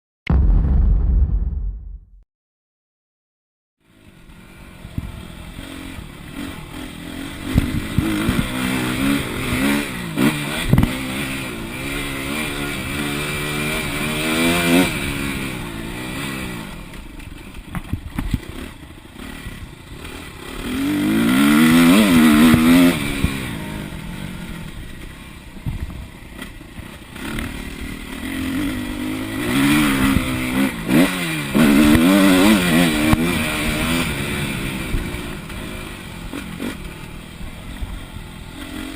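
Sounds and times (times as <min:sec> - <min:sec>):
motorcycle engine revving: 0:03.8 - 0:38.9.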